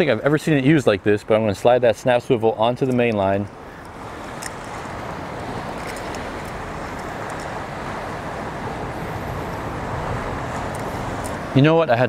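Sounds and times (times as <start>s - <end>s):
ocean surf on rocky shore: 0.0s - 12.0s.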